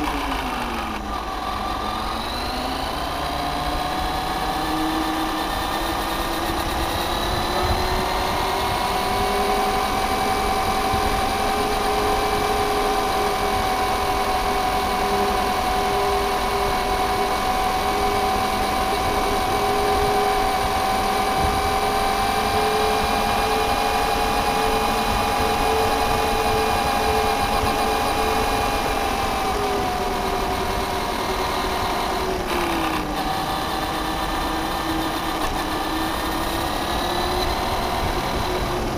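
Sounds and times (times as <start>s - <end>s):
electric toy truck motor whining: 0.0s - 38.9s
tyres rumbling on paving: 0.0s - 38.9s.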